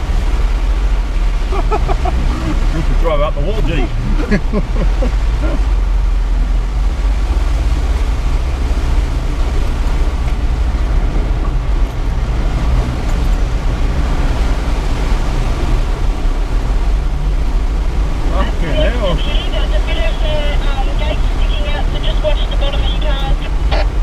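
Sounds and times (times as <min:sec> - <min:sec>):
engine rumble inside vehicle cab: 0:00.0 - 0:24.0
tyre and road noise: 0:00.0 - 0:24.0.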